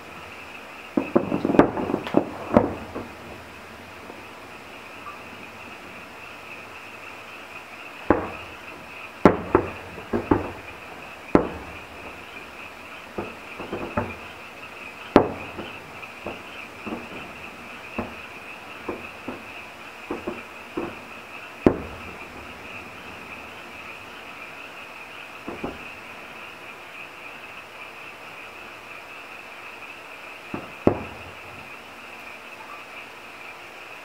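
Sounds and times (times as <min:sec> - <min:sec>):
firework shells bursting: 0:00.0 - 0:26.8, 0:30.4 - 0:32.3.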